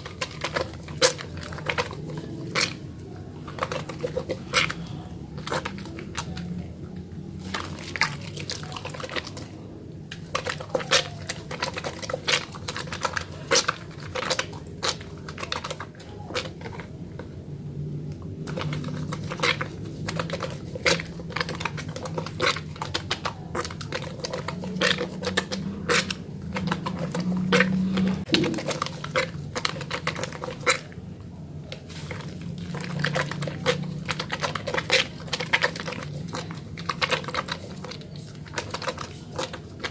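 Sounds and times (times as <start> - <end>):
hands lathering wet soap: 0.0 - 6.6, 7.3 - 17.3, 18.2 - 31.0, 31.6 - 39.9.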